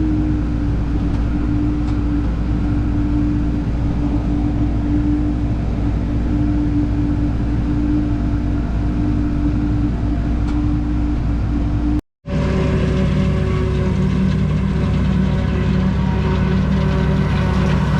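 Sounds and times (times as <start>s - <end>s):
different engine running: 0.0s - 17.9s
steady hum: 0.0s - 17.9s
tractor engine droning: 0.0s - 17.9s.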